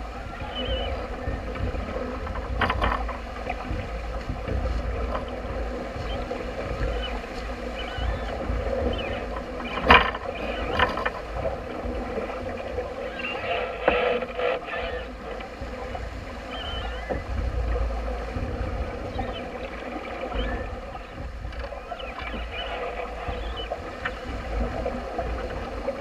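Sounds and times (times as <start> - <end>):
water rushing along a hull: 0.0 - 26.0
wind buffeting the microphone: 0.0 - 26.0.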